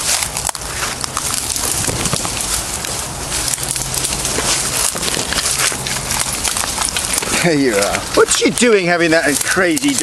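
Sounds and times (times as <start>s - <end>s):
foliage rustling and crackling: 0.0s - 10.0s.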